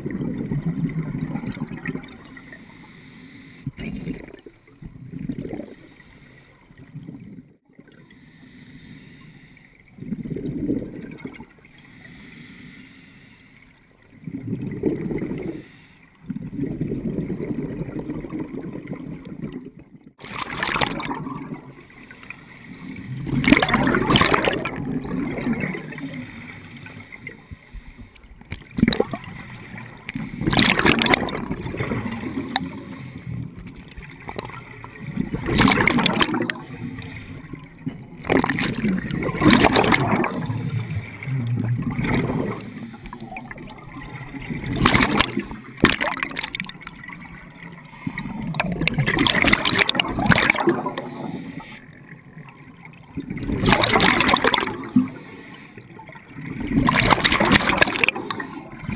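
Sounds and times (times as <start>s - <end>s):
air bubbles gurgling underwater: 0.0s - 2.4s, 3.7s - 5.9s, 9.9s - 11.7s, 14.1s - 58.9s
water noise: 0.0s - 58.9s.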